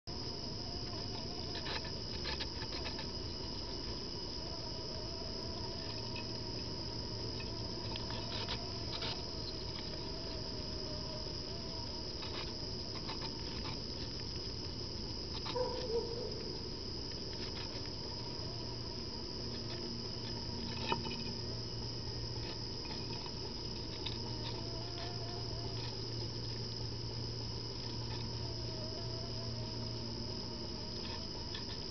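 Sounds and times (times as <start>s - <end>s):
constant high whine: 0.0s - 31.9s
background hiss: 0.1s - 31.9s
rodents nibbling: 0.1s - 31.9s.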